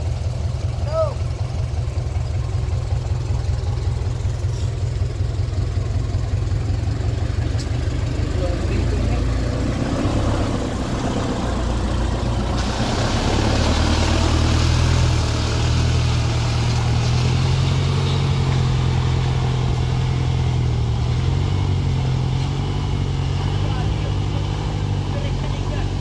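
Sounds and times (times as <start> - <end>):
vehicle engine running at low revs: 0.0 - 26.0.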